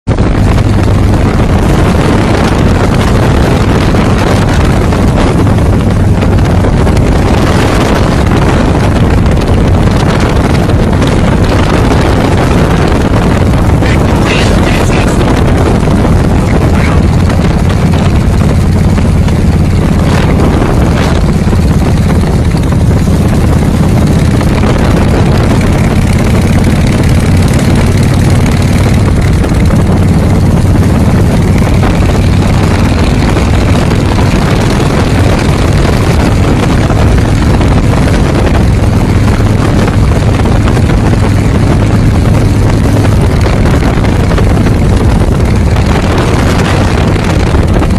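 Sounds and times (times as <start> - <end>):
motorcycle engine running: 0.1 - 47.9.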